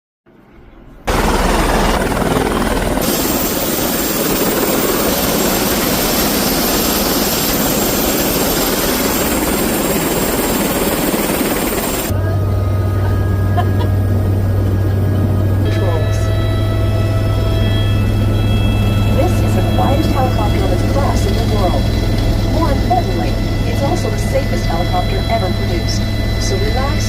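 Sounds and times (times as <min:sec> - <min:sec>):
helicopter turbine and rotor: 0:01.1 - 0:27.0.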